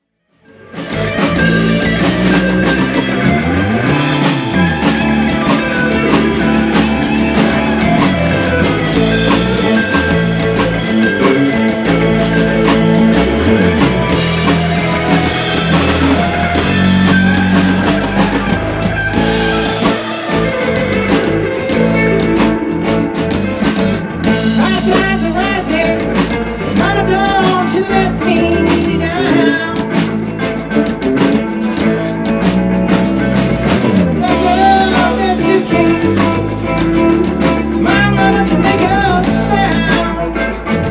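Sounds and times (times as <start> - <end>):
rock band instrumental: 0.4 - 40.9
moving bass line: 0.5 - 40.9.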